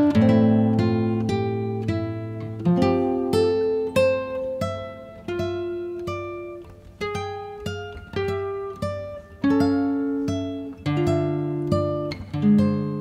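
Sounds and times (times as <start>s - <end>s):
plucked string instrument notes: 0.0s - 13.0s.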